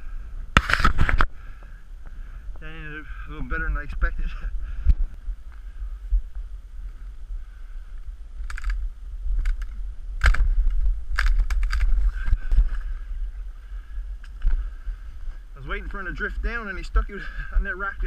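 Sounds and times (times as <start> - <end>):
dry branches crackling and rustling: 0.0 - 18.0
low wind rumble on microphone: 0.0 - 18.0.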